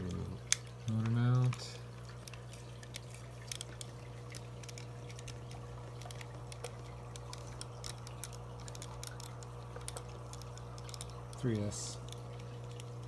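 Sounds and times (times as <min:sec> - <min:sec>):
small tools clicking and tapping: 0:00.0 - 0:12.9
steady low hum: 0:00.0 - 0:13.0.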